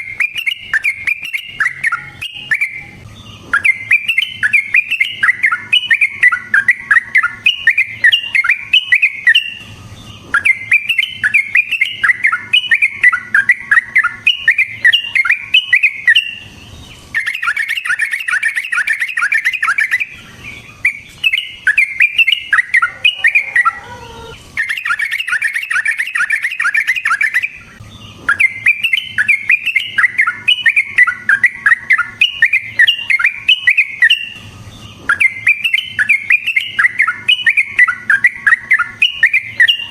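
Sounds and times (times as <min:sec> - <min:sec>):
bulbul singing bubbly chirps: 0:00.0 - 0:39.9.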